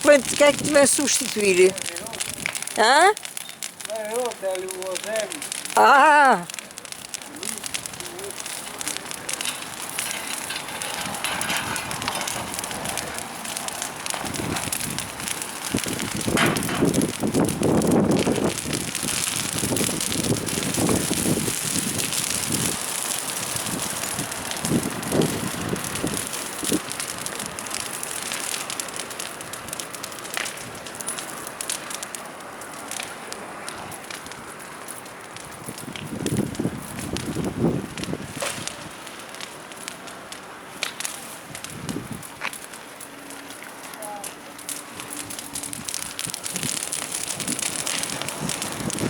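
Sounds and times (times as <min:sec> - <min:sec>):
bonfire crackling and popping: 0:00.0 - 0:49.0.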